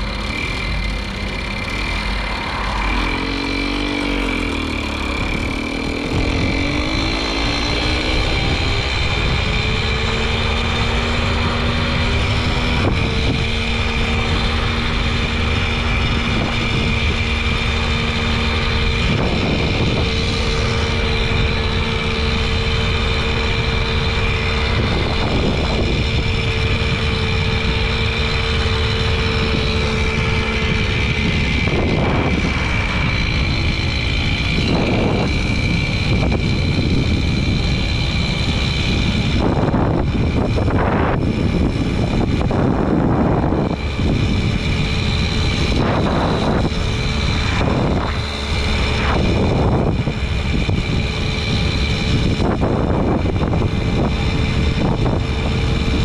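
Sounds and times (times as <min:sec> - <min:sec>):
moped engine running: 0:00.0 - 0:56.0
wind noise on microphone: 0:00.0 - 0:56.0.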